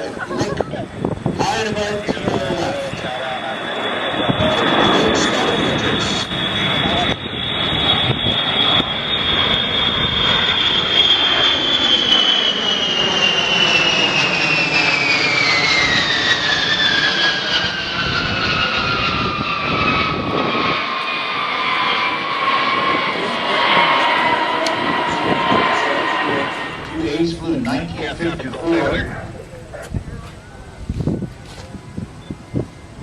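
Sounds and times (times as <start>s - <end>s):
jet bomber flying past: 0.0s - 33.0s.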